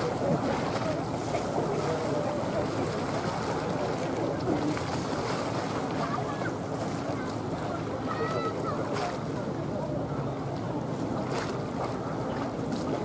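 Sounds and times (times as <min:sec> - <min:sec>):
faint murmur of crowd voices: 0:00.0 - 0:13.0
outdoor background noise: 0:00.0 - 0:13.0.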